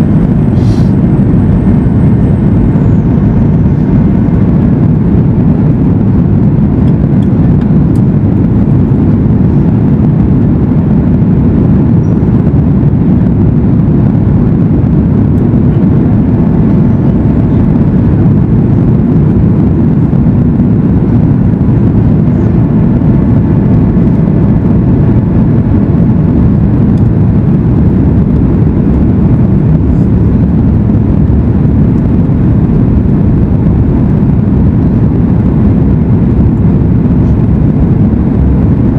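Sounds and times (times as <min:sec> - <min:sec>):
airplane engine rumble in flight: 0:00.0 - 0:38.9.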